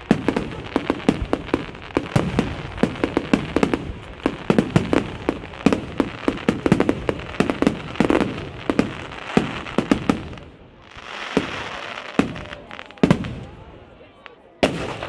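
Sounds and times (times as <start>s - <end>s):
fireworks hiss: 0.0s - 13.6s
fireworks bangs: 0.0s - 15.0s.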